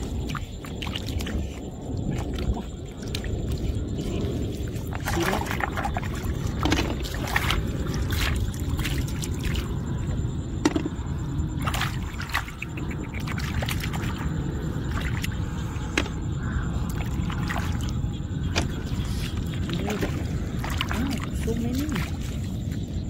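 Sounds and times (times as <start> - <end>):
muddy water splashing: 0.0 - 10.8, 11.5 - 23.0
steady low rumble: 0.0 - 23.0.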